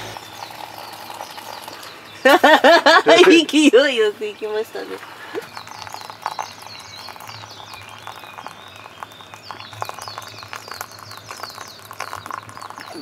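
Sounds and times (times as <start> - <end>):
hot water trickling into cup: 0.0 - 13.0
small birds chirping: 0.0 - 13.0.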